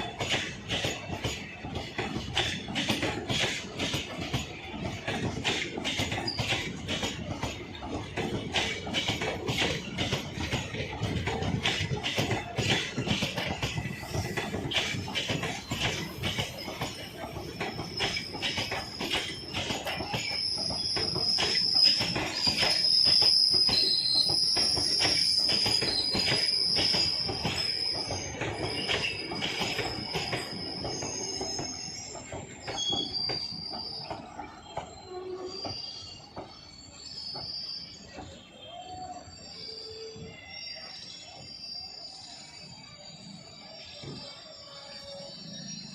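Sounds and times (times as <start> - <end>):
train wheels clacking over joints: 0.0 - 40.3
high brake squeal: 0.0 - 45.9.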